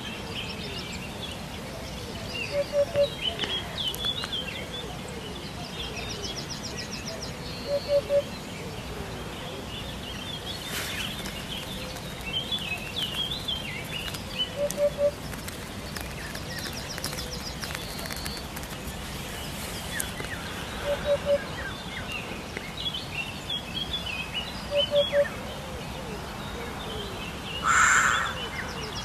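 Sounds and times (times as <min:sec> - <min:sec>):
small birds chirping: 0:00.0 - 0:29.0
hoopoe calling: 0:01.7 - 0:06.4, 0:07.6 - 0:22.2, 0:24.7 - 0:29.0.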